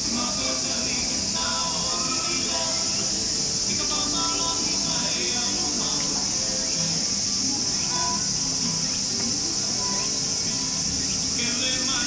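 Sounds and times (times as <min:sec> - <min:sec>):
high-pitched insect drone: 0:00.0 - 0:12.0
soft background music: 0:00.0 - 0:12.0.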